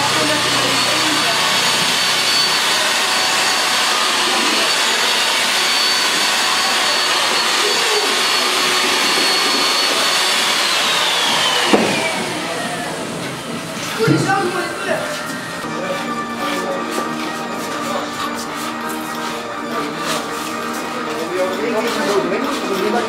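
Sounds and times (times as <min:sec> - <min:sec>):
electric appliance motor whining: 0:00.0 - 0:23.0.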